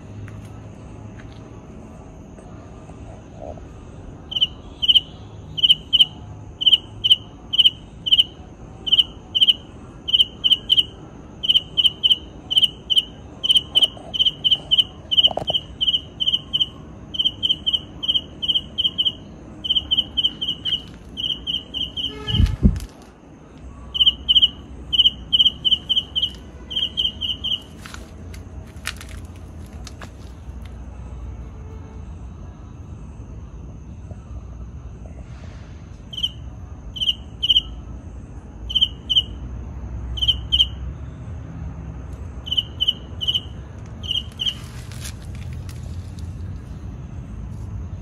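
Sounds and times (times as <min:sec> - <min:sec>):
insect chirping: 0:03.4 - 0:31.2, 0:35.9 - 0:48.0.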